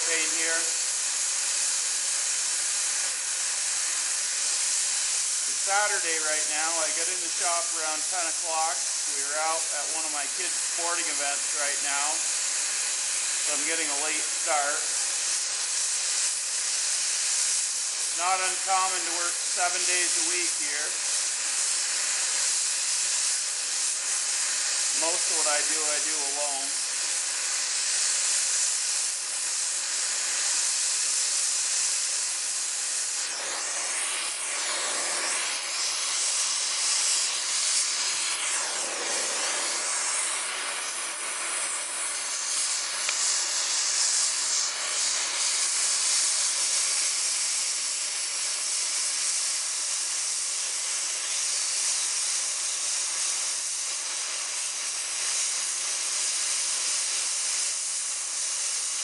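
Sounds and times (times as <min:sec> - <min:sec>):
propane torch hissing: 0:00.0 - 0:59.0.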